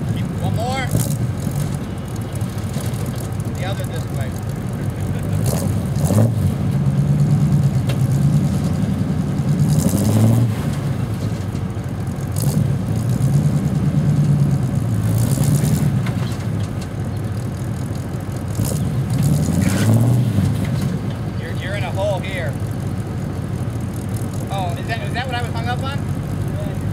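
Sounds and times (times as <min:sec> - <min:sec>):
truck engine revving under load: 0:00.0 - 0:26.9.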